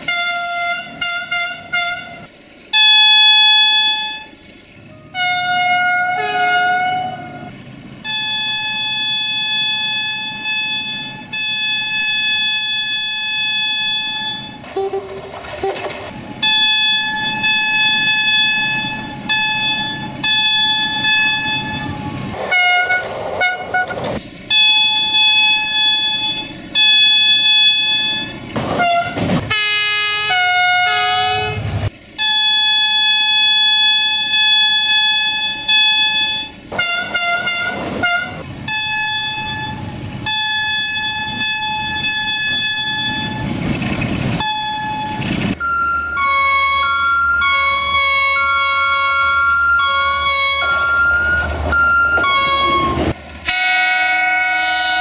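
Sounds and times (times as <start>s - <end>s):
locomotive air horn blasts: 0.0s - 43.4s, 44.4s - 55.0s
low rumble of trains: 0.0s - 55.0s.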